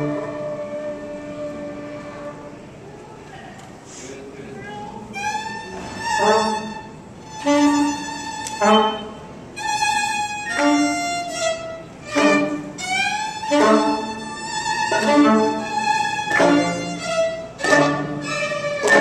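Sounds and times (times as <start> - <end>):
violin: 0.0 - 2.8, 5.0 - 19.0.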